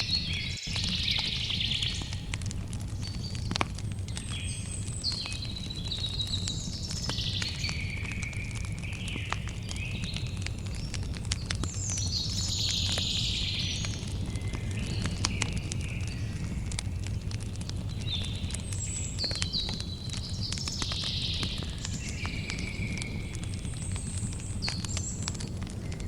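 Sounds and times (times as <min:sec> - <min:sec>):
campfire crackling and popping: 0:00.0 - 0:26.0
low steady rumble: 0:00.0 - 0:26.0
songbird singing: 0:00.0 - 0:26.0.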